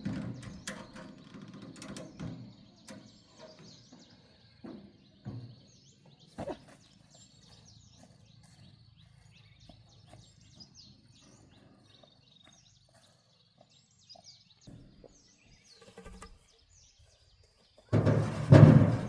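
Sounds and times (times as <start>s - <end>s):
small birds chirping: 0.0s - 18.2s.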